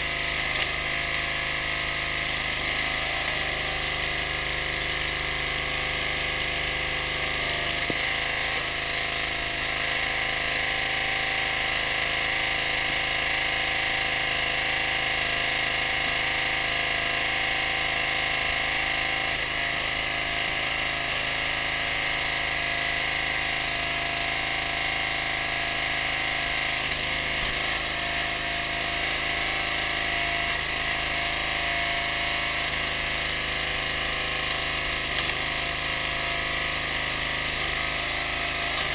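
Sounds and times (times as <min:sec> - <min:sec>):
petrol engine running steadily: 0:00.0 - 0:38.9.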